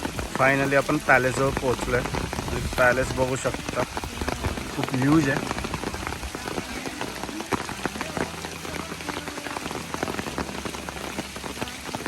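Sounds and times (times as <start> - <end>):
raindrops ticking: 0.0 - 12.0
steady rain falling: 0.0 - 12.0.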